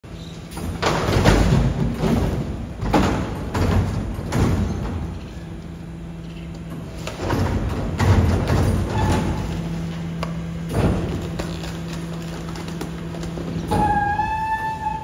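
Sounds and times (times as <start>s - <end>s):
garbage truck humming: 0.0s - 15.0s.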